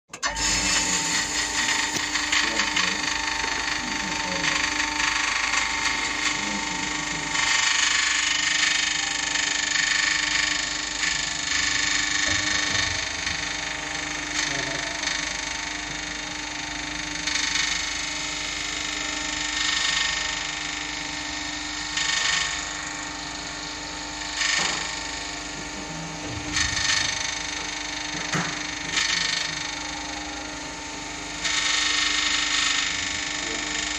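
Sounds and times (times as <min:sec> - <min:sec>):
lift motor hum: 0:00.1 - 0:33.9
drum winding wire rope rushing: 0:00.2 - 0:25.3, 0:25.9 - 0:29.9.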